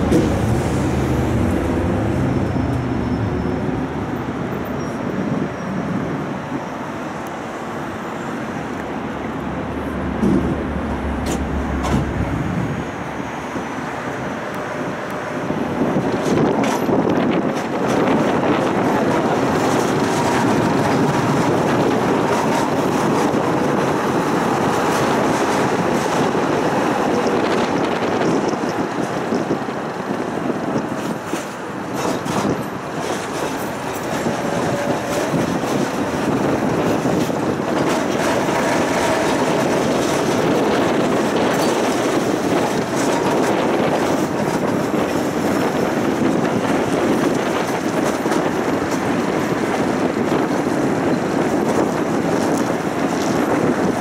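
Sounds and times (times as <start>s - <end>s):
tram wheels on rail: 0.0s - 54.0s.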